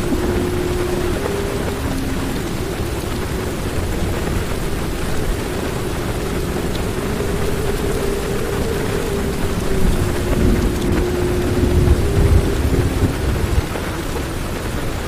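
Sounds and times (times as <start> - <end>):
faint steady hum: 0.0 - 15.0
heavy rain drumming on car roof: 0.0 - 15.0.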